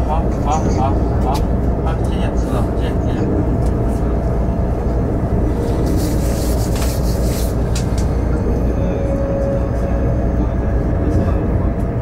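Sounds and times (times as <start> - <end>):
moving train rumbling: 0.0 - 12.0.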